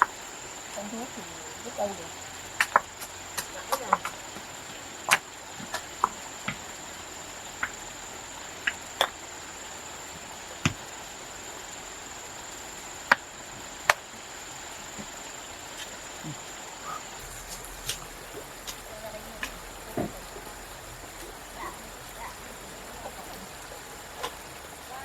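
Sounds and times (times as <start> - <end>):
crickets droning: 0.0 - 25.0.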